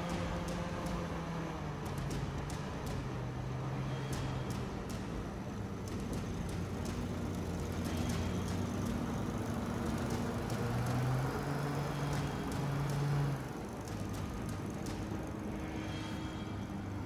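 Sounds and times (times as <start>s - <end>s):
fans rushing air: 0.0s - 17.0s
hovercraft engines running: 0.0s - 17.0s.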